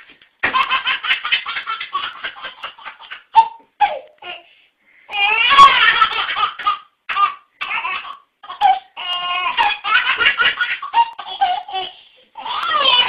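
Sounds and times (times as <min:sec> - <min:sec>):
baby laughing: 0:00.4 - 0:04.4, 0:05.2 - 0:13.0.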